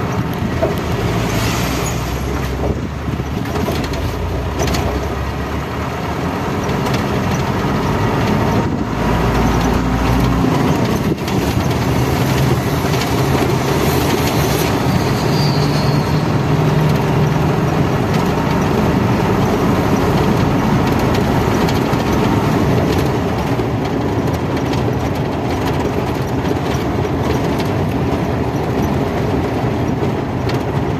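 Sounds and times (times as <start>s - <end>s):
vehicle engine and road noise: 0.0s - 30.9s.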